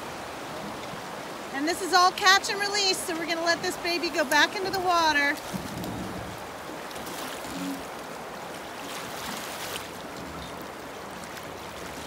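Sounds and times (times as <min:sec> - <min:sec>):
river current rushing: 0:00.0 - 0:12.0.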